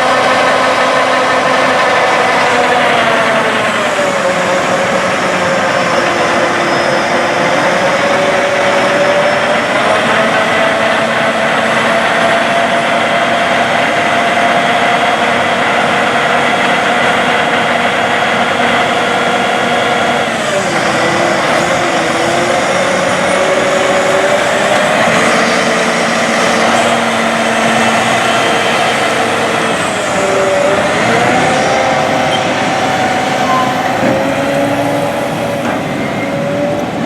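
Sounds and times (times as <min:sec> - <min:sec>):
diesel machinery running with whine: 0:00.0 - 0:37.0.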